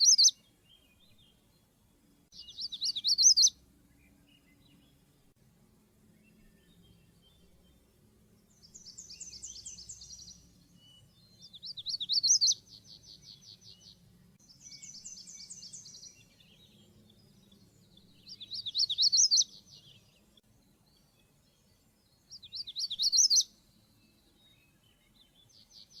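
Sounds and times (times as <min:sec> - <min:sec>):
warbler singing: 0:00.0 - 0:05.3, 0:05.9 - 0:26.0.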